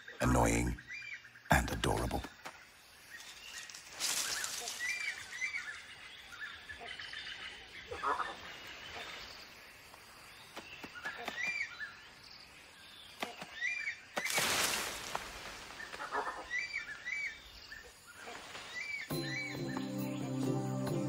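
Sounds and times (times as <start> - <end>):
rainforest ambience: 0.0 - 21.0.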